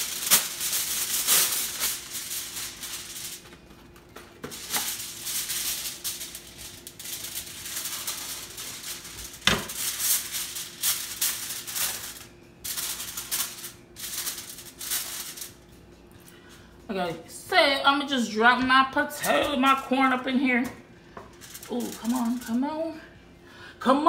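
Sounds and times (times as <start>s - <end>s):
aluminum foil crinkling: 0.0s - 16.6s, 19.1s - 23.0s.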